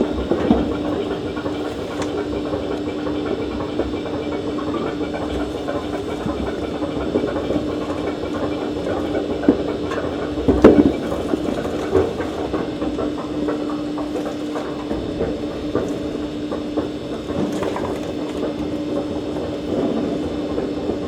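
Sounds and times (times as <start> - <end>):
meat grinder humming: 0.0 - 21.0.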